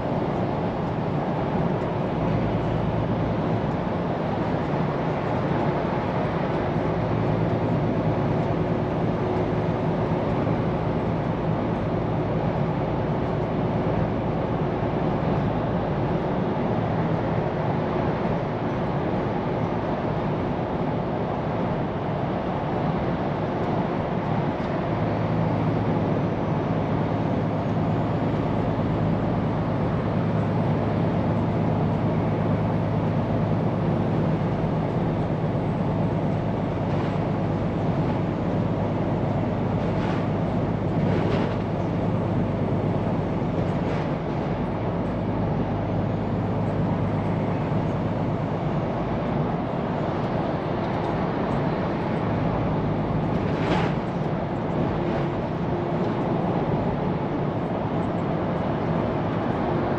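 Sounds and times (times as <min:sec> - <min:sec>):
road and tyre noise: 0:00.0 - 0:59.9
truck engine drone: 0:00.0 - 0:59.9.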